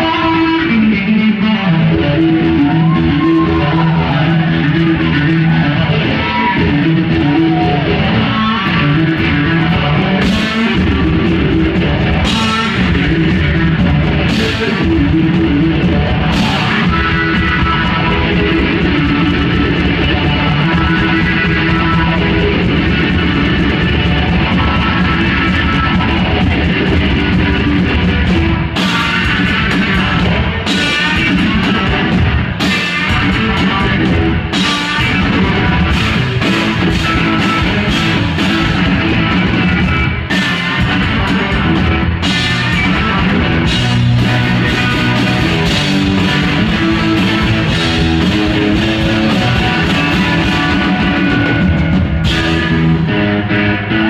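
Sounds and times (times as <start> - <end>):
distorted electric guitar: 0.0 - 54.0
drum kit playing: 1.8 - 54.0.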